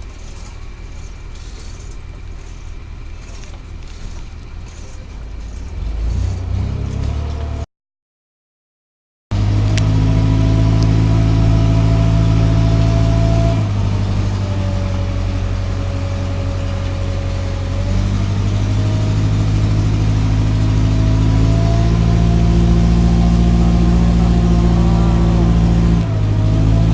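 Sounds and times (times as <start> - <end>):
loud engine running: 0.0 - 7.6, 9.3 - 26.9.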